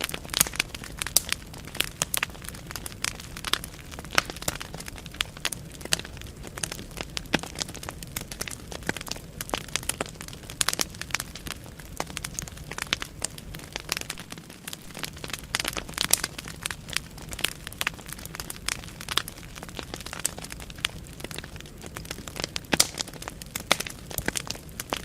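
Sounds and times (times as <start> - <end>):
logs crackling and popping: 0.0 - 25.0
low rumble of flames: 0.0 - 25.0.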